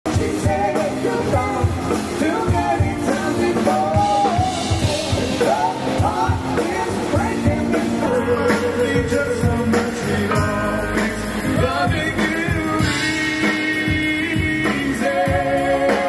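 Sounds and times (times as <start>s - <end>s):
band playing rock music: 0.0s - 16.0s
drum kit beating: 0.0s - 16.0s
electric keyboard: 0.0s - 16.0s
sliding lead melody: 0.1s - 16.0s.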